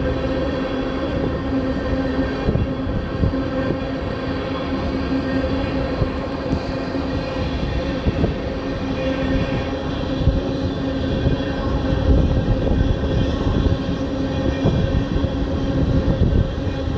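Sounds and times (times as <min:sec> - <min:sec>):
steady hum: 0:00.0 - 0:16.9
train wheels rumbling on rail: 0:00.0 - 0:16.9.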